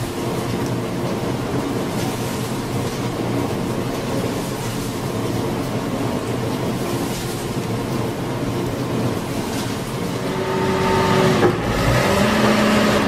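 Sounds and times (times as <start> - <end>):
machinery hum and rumble: 0.0 - 13.0.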